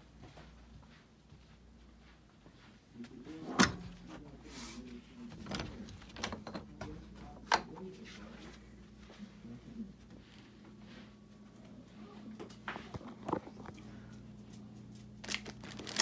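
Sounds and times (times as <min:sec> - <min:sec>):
quiet shuffling: 0:00.0 - 0:06.2, 0:06.8 - 0:15.2
low steady hum: 0:00.0 - 0:16.0.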